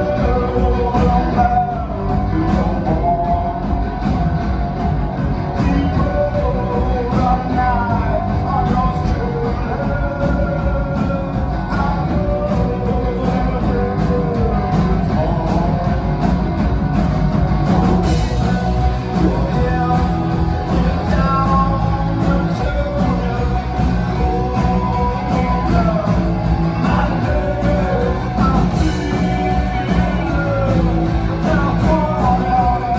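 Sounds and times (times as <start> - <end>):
electric guitar: 0.0 - 32.9
live rock band playing: 0.0 - 32.9.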